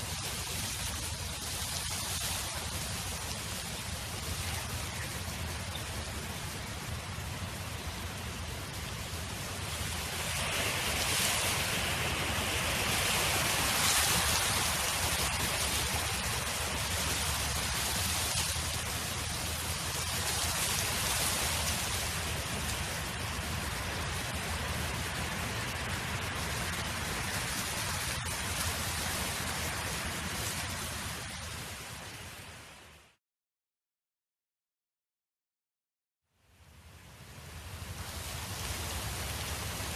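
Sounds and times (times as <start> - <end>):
wind blowing across open field: 0.0 - 33.1, 36.6 - 39.9.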